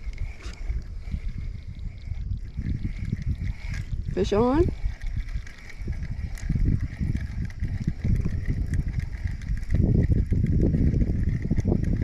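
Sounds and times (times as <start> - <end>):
fishing reel cranking rumble: 0.0 - 12.0.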